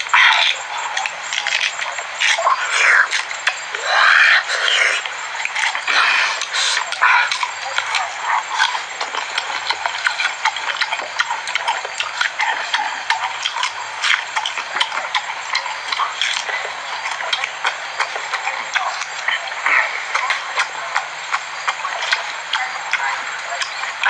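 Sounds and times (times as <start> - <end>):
person chewing wetly: 0.0 - 24.0
lip-smacking clicks: 4.6 - 24.0.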